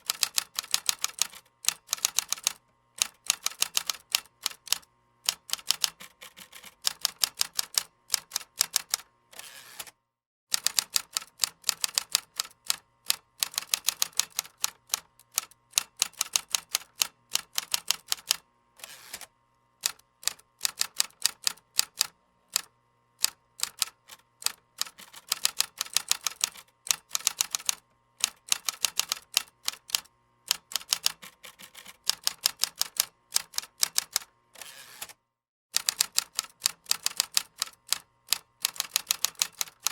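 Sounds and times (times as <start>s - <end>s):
fast typing on a keyboard: 0.0s - 9.1s, 10.5s - 18.4s, 19.8s - 34.3s, 35.8s - 39.9s.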